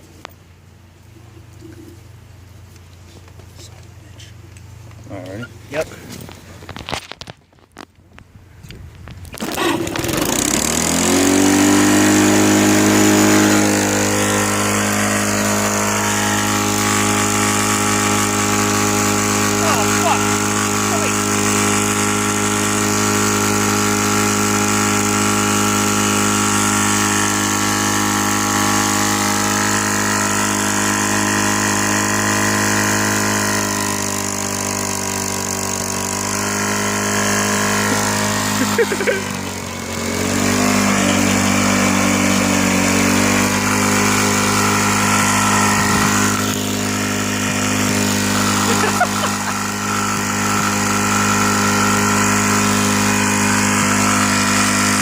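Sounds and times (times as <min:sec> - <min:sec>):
small engine running: 0:09.2 - 0:55.0.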